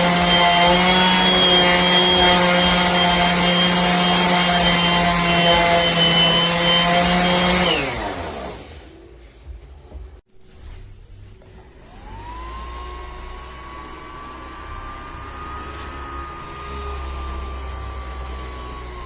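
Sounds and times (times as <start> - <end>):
motor winding down: 0.0 - 8.9, 11.8 - 19.0
orbital sander running: 0.0 - 8.9, 11.9 - 19.0.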